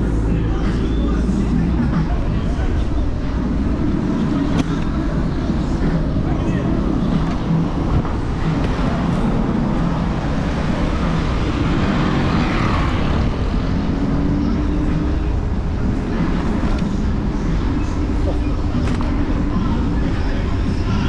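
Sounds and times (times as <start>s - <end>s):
wind and road noise rumble: 0.0s - 21.0s.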